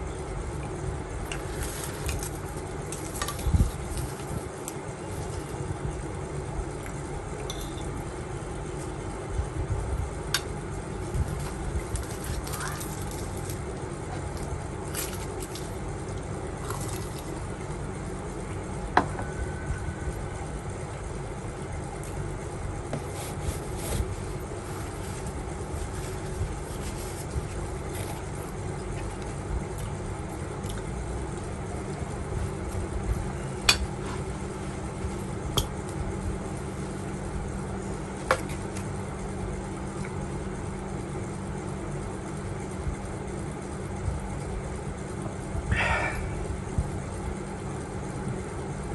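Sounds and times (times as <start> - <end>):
low background hum: 0.0 - 48.9.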